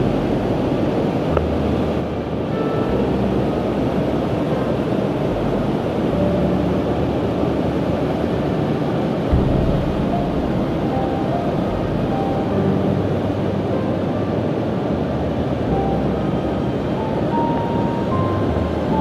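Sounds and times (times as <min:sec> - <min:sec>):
low rumbling on microphone: 0:00.0 - 0:19.0
whitewater river roaring: 0:00.0 - 0:19.0.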